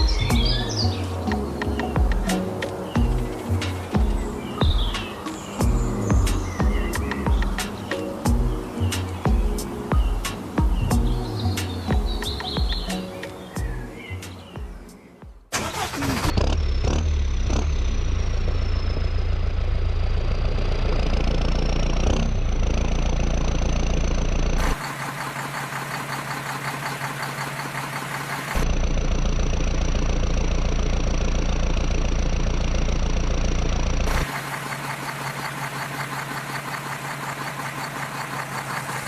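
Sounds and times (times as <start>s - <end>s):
engine starting and running: 0.0s - 14.6s, 15.5s - 39.0s.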